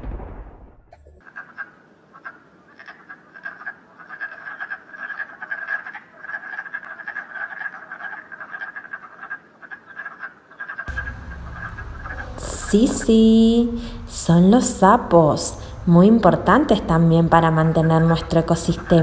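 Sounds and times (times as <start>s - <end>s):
toads croaking: 1.2s - 19.0s.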